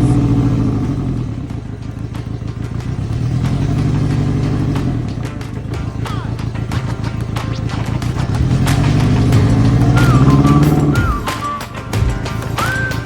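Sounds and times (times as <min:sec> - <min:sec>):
boat motor running unevenly: 0:00.0 - 0:13.0
engine pops and clicks: 0:00.0 - 0:13.0.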